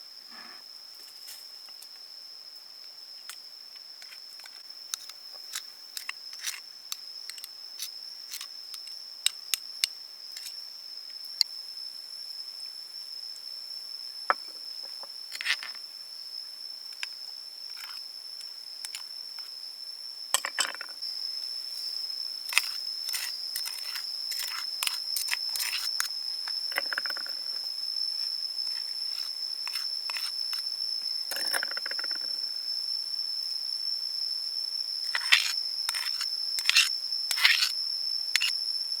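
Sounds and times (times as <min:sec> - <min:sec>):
high-pitched insect drone: 0:00.0 - 0:39.0.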